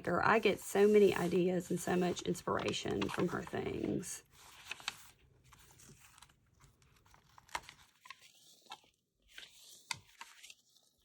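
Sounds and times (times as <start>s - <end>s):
paper pages rustling: 0.8s - 11.0s.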